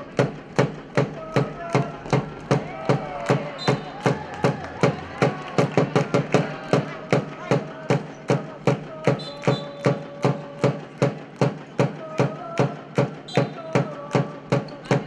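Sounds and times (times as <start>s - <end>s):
crowd chanting: 0.0s - 15.0s
drum beaten in steady beat: 0.0s - 15.0s.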